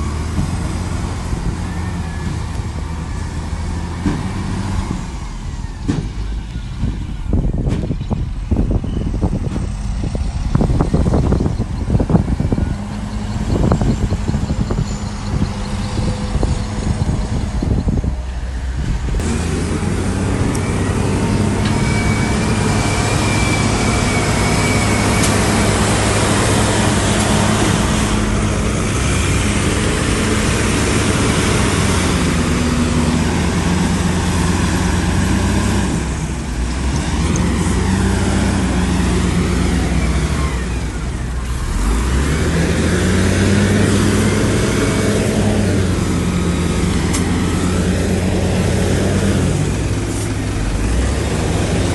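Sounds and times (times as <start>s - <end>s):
diesel earthmoving machine engine: 0.0s - 51.9s.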